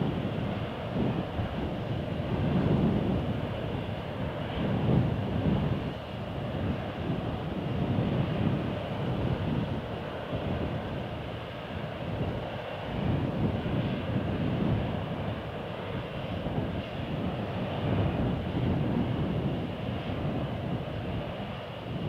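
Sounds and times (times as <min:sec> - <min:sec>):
outdoor rumble with hiss: 0:00.0 - 0:22.0.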